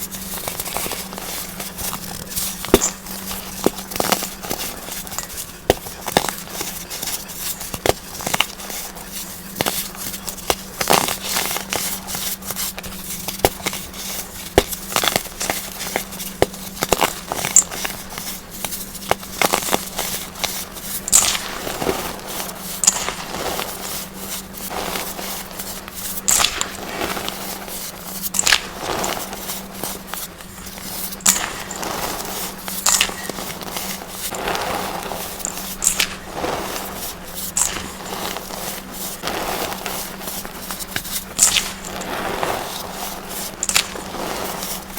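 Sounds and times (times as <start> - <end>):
powder clumps crunching: 0.0 - 44.9.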